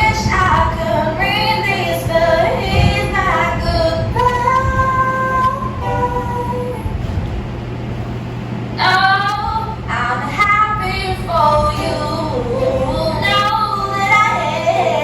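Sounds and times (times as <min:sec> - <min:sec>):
woman singing: 0:00.0 - 0:07.2, 0:08.8 - 0:15.0
backing music: 0:00.0 - 0:07.5, 0:08.8 - 0:15.0.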